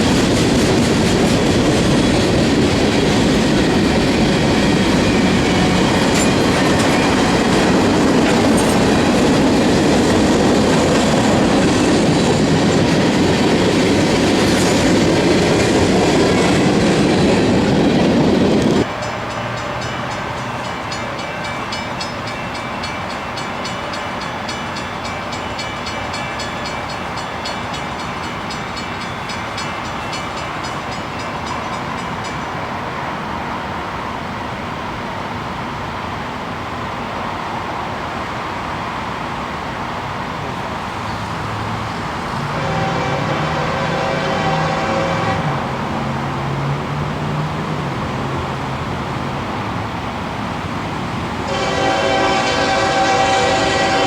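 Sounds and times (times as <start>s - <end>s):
freight train rumbling and clattering: 0.0s - 54.0s.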